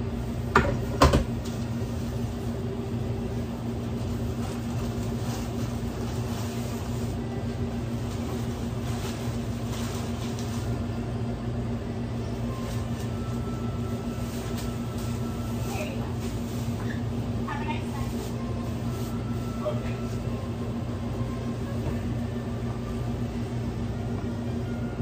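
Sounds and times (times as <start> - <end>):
electrical hum of kitchen equipment: 0.0 - 25.0.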